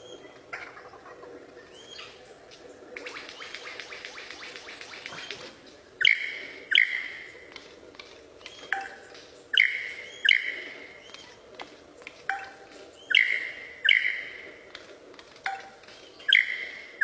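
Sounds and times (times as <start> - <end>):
lyrebird calling: 0.0 - 17.0.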